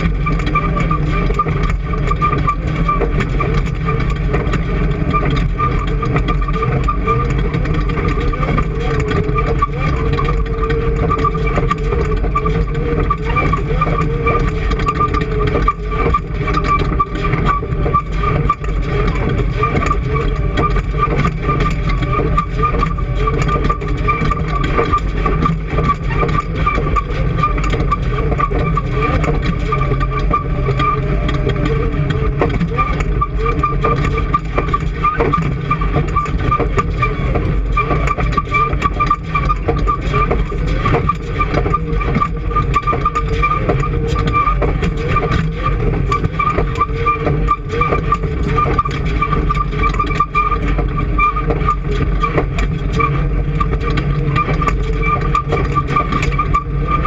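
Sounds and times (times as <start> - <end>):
engine running with low rumble: 0.0 - 57.0
steady engine whine: 0.0 - 57.0.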